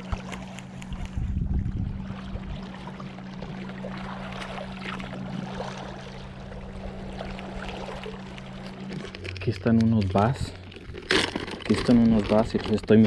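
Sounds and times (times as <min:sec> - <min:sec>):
small splashes: 0:00.0 - 0:13.0
steady low hum: 0:00.0 - 0:13.0
water lapping against rocky shore: 0:00.0 - 0:13.0.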